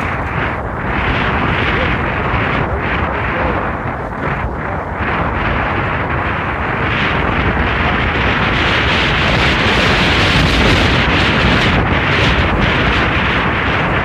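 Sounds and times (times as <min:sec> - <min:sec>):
motorcycle engine: 0:00.0 - 0:14.0
road noise: 0:00.0 - 0:14.0
wind rushing over microphone: 0:00.0 - 0:14.0.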